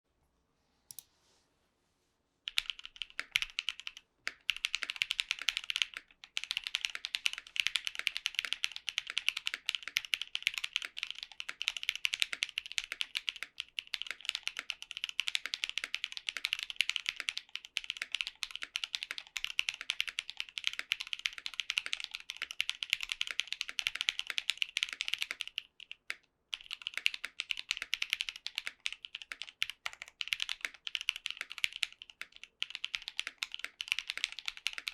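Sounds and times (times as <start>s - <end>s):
typing on mechanical keyboard: 2.5s - 34.9s.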